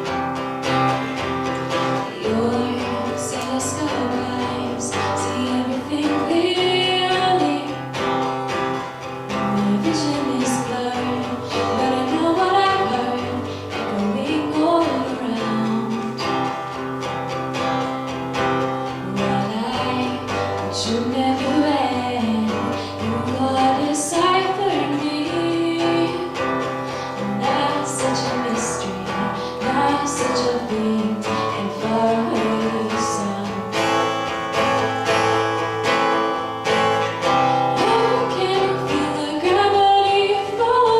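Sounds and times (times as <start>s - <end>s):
acoustic guitar strumming: 0.0s - 40.9s
person singing: 0.7s - 16.6s, 18.8s - 34.2s, 37.2s - 40.9s.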